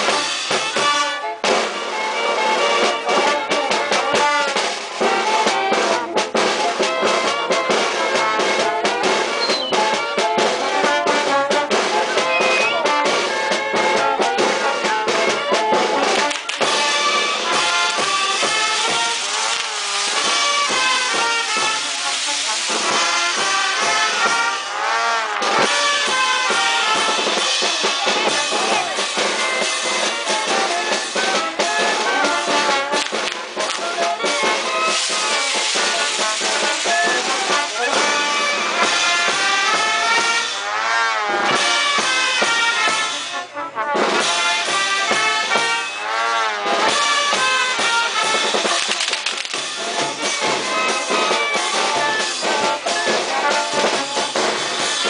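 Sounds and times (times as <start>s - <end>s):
drums playing: 0.0s - 40.6s, 41.4s - 55.0s
brass band playing: 0.0s - 55.0s.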